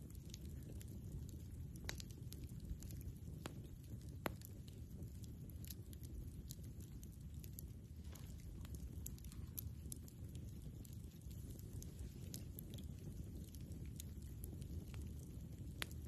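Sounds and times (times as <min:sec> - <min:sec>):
campfire crackling: 0:00.0 - 0:16.0
low steady rumble: 0:00.0 - 0:16.0.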